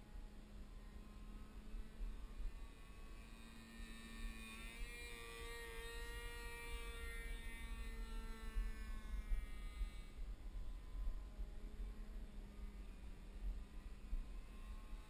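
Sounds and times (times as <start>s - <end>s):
model plane engine buzzing: 0.0s - 15.0s
wind rumble on microphone: 0.0s - 15.0s.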